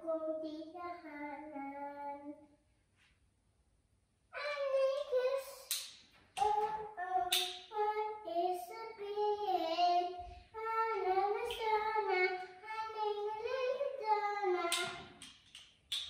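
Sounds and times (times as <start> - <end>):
small child singing: 0.0 - 2.6, 4.3 - 15.2.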